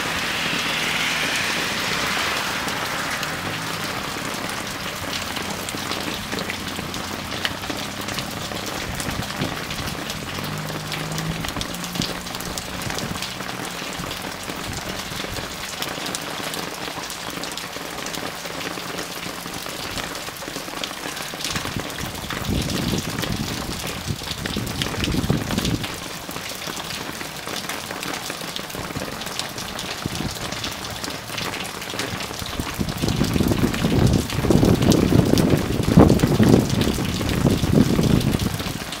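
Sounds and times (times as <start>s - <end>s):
raindrops striking hard surfaces: 0.0s - 39.0s
steady rain falling: 0.0s - 39.0s.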